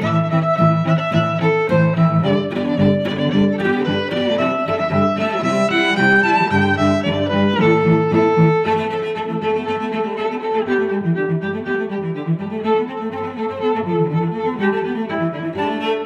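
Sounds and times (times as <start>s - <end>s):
violin and cello melody: 0.0s - 16.0s.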